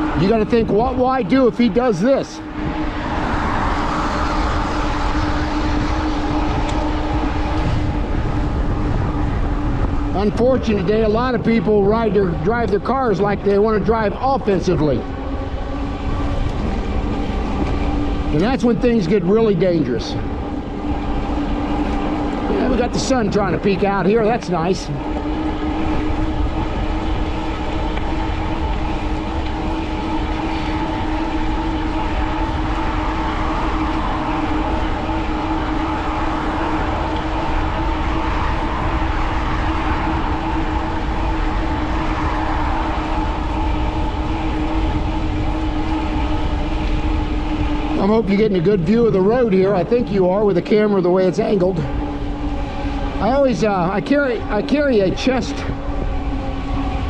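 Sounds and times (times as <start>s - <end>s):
electric motor hum: 0.0s - 57.0s
wind on microphone: 0.0s - 57.0s.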